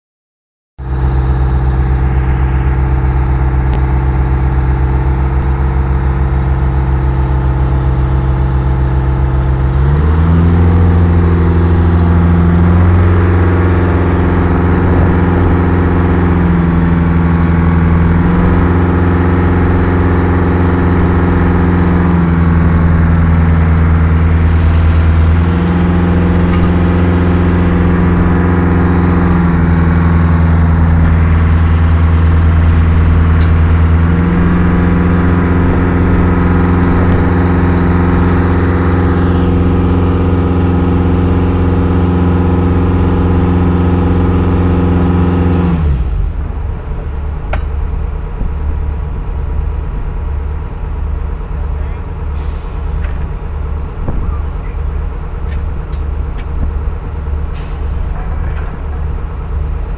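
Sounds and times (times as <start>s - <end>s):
rig engine running: 0.8s - 59.9s.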